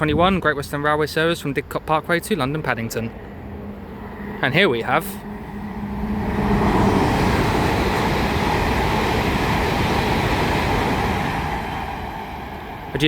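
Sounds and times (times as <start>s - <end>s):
train passing at speed: 0.8s - 13.0s.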